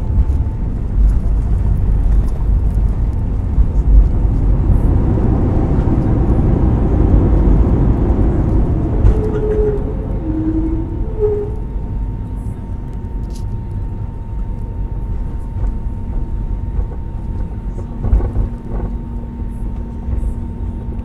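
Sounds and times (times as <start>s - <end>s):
airliner engines and wheels rumbling: 0.0s - 21.0s.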